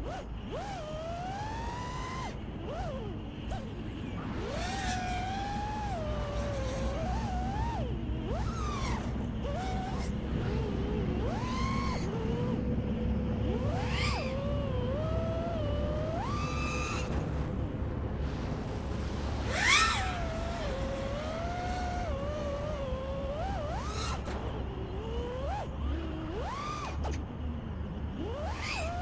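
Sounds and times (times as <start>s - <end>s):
quadcopter motors whining: 0.0s - 29.0s
low rumble of prop wash: 3.7s - 28.8s.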